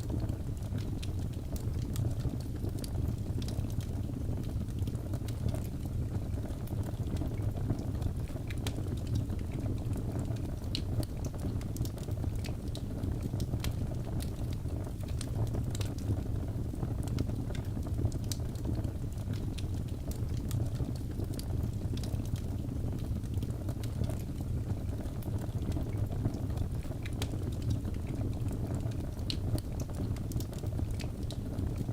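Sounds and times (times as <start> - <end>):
fire burning: 0.0 - 31.9
logs crackling and popping: 0.0 - 31.9.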